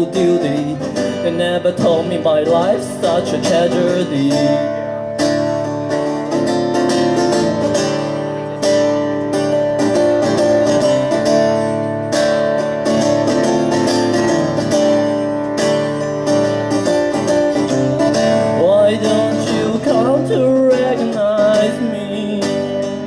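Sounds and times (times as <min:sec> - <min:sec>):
guitar strumming: 0:00.0 - 0:23.0.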